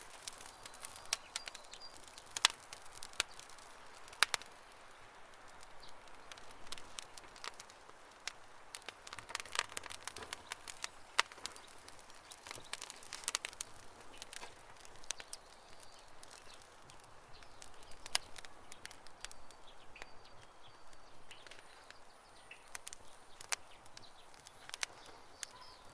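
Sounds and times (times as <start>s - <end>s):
campfire crackling and popping: 0.0s - 25.9s
low fire hiss: 0.0s - 25.9s.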